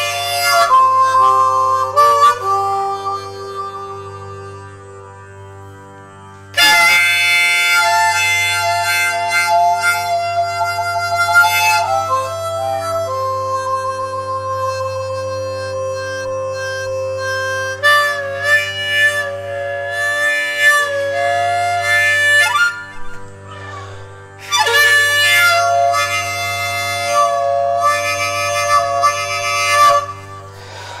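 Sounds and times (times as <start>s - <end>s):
harmonica playing: 0.0s - 31.0s
steady low drone: 0.0s - 31.0s.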